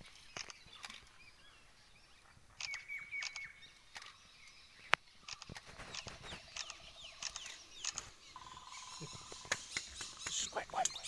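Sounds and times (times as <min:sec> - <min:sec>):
forest birds calling: 0:00.0 - 0:11.0.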